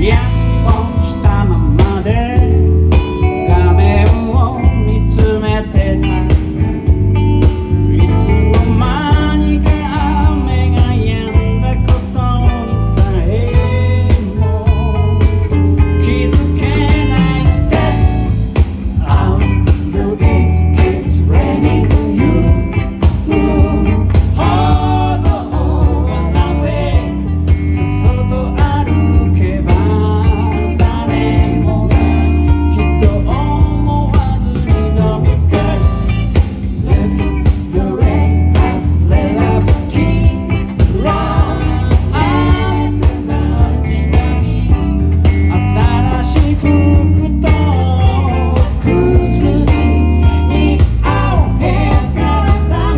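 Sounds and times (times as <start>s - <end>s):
person singing: 0.0s - 6.8s, 7.8s - 52.9s
pop-rock band playing: 0.0s - 52.9s.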